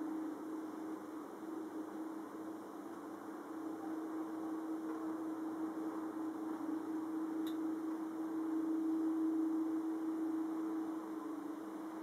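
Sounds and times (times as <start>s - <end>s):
distant aircraft drone: 0.0s - 12.0s.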